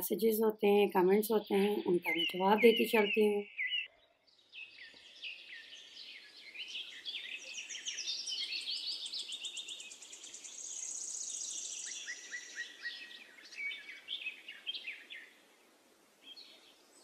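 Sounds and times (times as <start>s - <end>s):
small birds chirping: 0.0s - 15.5s, 16.2s - 17.0s.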